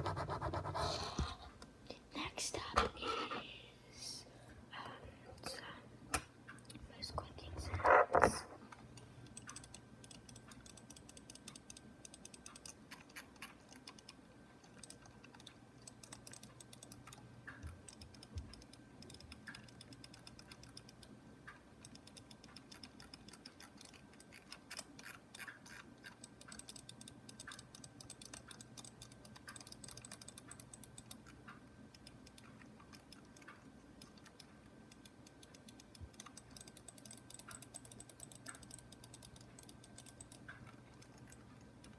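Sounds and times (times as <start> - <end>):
computer mouse clicking: 5.4 - 41.9.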